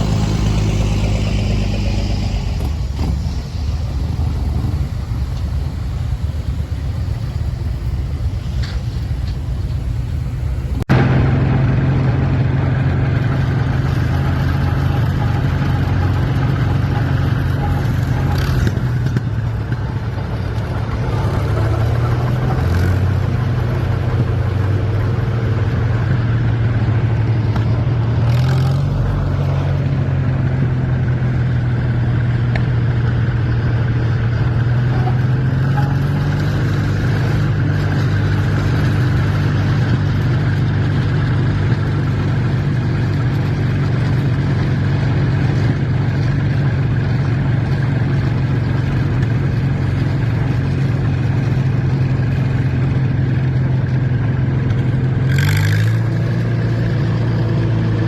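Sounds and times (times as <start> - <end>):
farm tractor engine running: 0.0 - 58.0.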